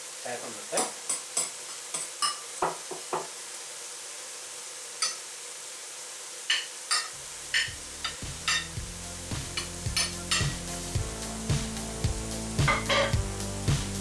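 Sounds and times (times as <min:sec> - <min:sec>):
pan sizzling: 0:00.0 - 0:14.0.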